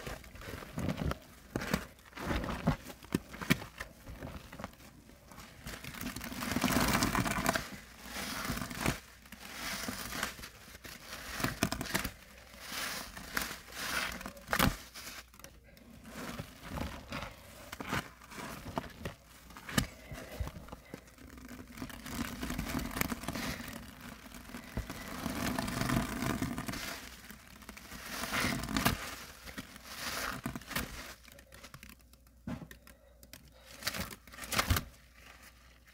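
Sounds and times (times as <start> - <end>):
wet sponge squelching: 0.0 - 15.4, 16.0 - 31.6.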